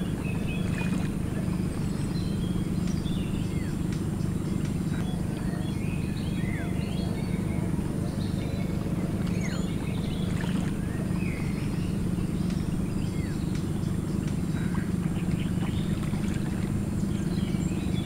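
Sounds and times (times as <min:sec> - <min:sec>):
birds chirping and whistling: 0:00.0 - 0:18.0
steady low rumble: 0:00.0 - 0:18.0.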